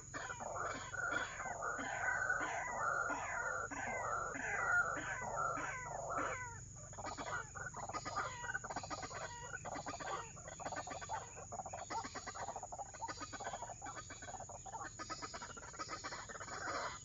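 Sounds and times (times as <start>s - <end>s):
waterhens calling: 0.0s - 17.0s.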